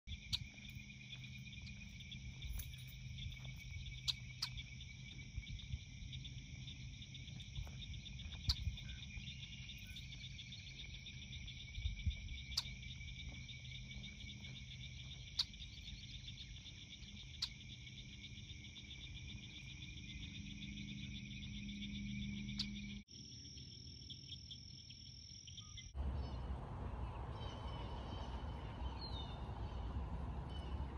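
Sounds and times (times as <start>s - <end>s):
insects calling: 0.0s - 30.9s.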